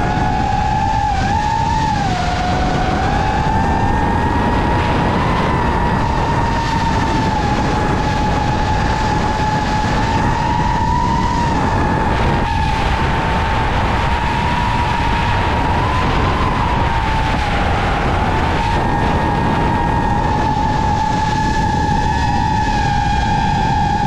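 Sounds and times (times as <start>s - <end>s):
drone motors whining: 0.0s - 24.0s
rush of wind and propeller wash: 0.0s - 24.0s.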